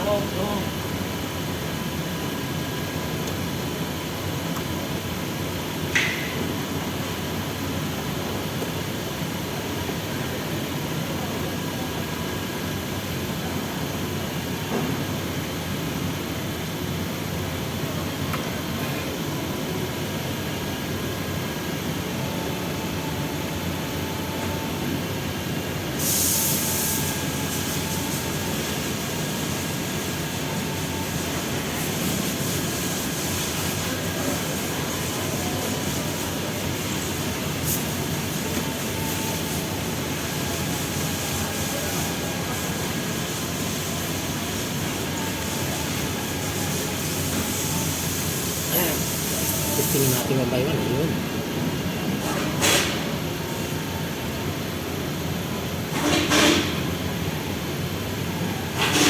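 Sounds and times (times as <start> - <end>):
mechanical rumble and hiss: 0.0 - 59.0.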